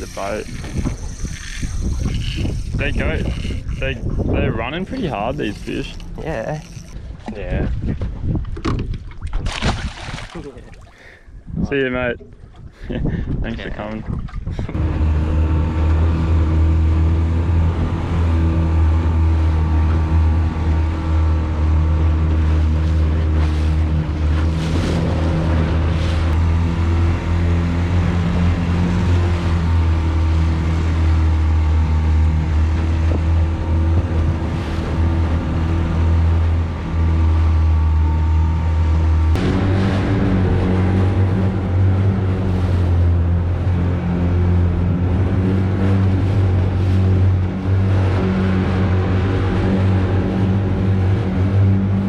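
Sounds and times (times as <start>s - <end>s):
outboard motor running: 0.0s - 52.0s
water noise: 0.0s - 52.0s
wind: 0.0s - 52.0s.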